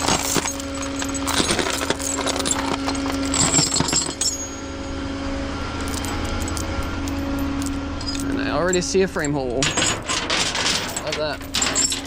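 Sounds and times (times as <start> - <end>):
metal chain clinking and rattling: 0.0 - 4.6, 5.8 - 12.0
low steady hum: 0.0 - 12.0.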